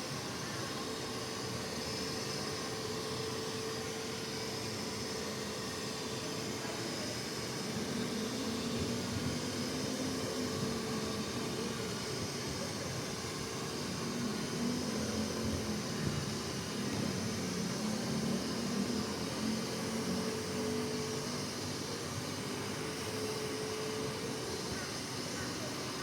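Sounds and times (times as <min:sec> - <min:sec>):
suction fan whirring: 0:00.0 - 0:26.0.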